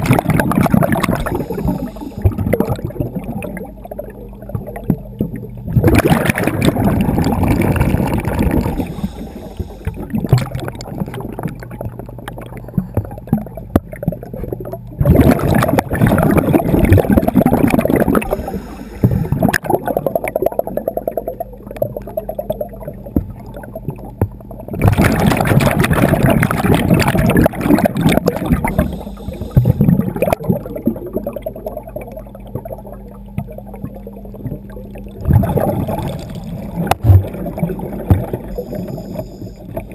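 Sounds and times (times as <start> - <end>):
steady low hum: 0.0 - 22.1, 22.8 - 39.9
underwater bubbles gurgling: 0.0 - 39.9.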